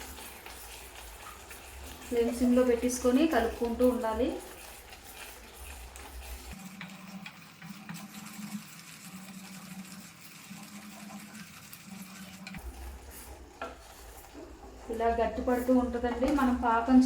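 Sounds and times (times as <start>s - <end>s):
syrup simmering: 0.0s - 16.8s
spoon stirring and scraping pan: 0.0s - 17.0s.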